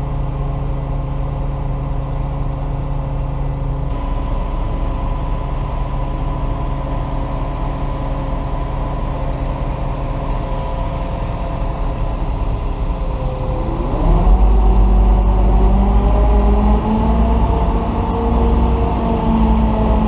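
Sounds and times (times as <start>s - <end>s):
large engine idling and revving: 0.0s - 20.0s.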